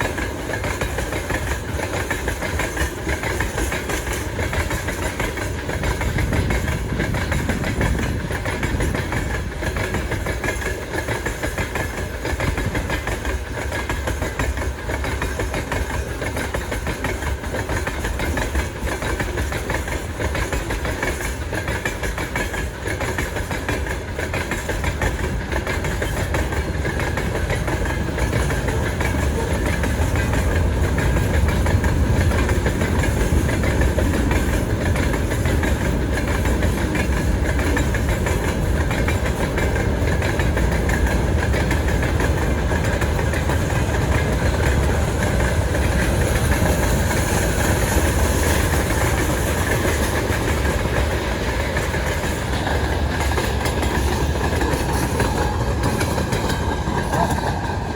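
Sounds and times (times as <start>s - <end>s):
freight train wheels rumbling: 0.0s - 57.9s.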